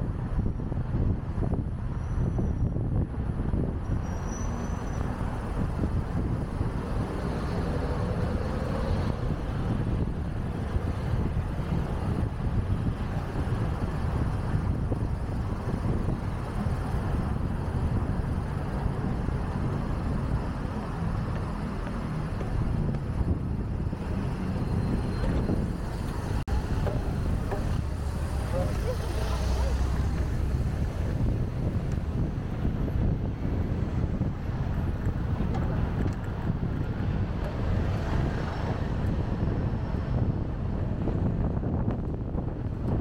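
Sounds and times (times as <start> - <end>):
cars and buses passing: 0.0 - 43.0
wind noise on microphone: 0.0 - 43.0.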